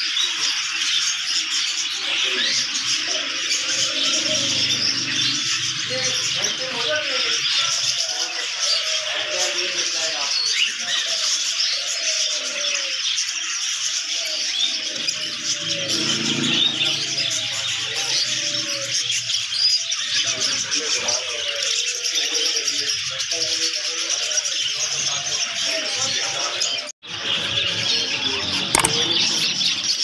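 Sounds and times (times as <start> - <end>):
birds twittering: 0.0 - 30.0.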